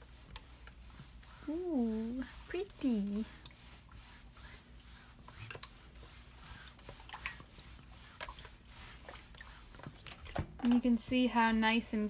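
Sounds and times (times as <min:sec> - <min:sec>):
iron rubbing over fabric: 0:00.0 - 0:10.0.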